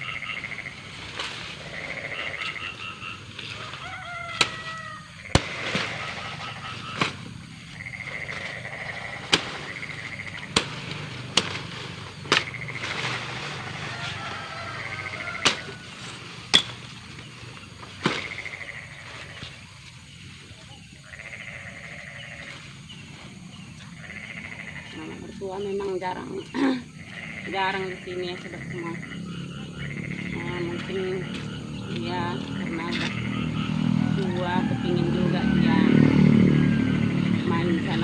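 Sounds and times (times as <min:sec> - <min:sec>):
frogs trilling: 0:00.0 - 0:38.0.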